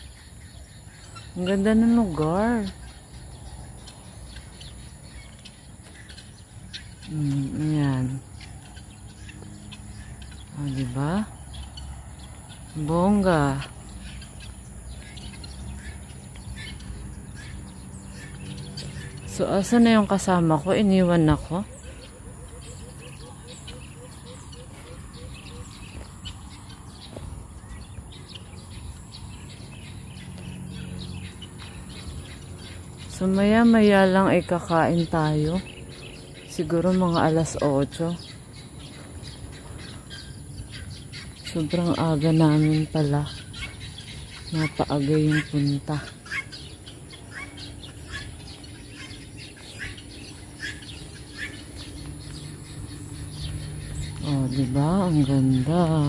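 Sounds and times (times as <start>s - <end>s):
low steady rumble: 0.0s - 56.0s
small birds chirping: 0.0s - 56.0s.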